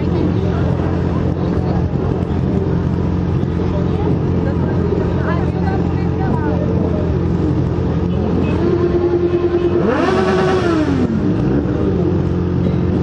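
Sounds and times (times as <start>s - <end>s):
motorcycle engine revving: 0.0s - 13.0s
motorcycle engines running: 0.0s - 13.0s.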